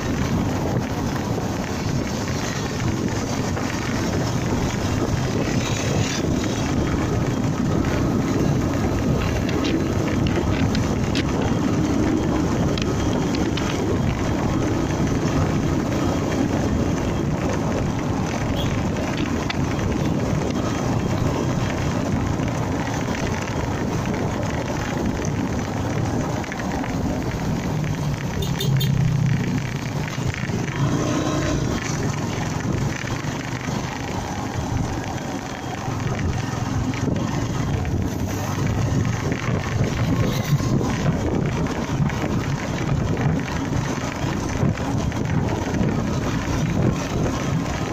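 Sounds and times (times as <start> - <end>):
motorcycle engine running: 0.0 - 47.9
traffic: 0.0 - 47.9
wind and road noise: 0.0 - 47.9.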